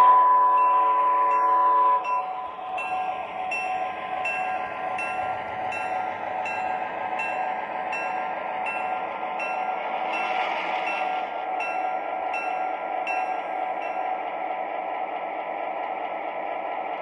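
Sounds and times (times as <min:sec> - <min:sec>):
train bell ringing: 0:00.0 - 0:14.6
model train diesel engine sound: 0:00.0 - 0:17.0
wheels rumbling on track: 0:00.0 - 0:17.0.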